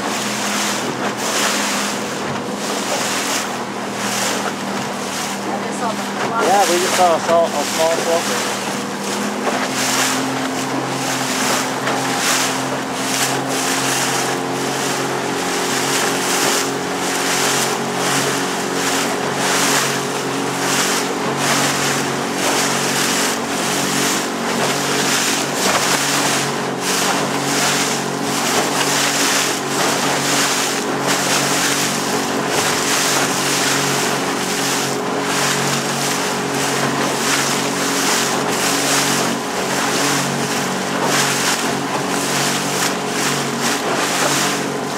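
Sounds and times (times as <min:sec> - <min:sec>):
boat motor running: 0:00.0 - 0:44.9
rushing water: 0:00.0 - 0:44.9.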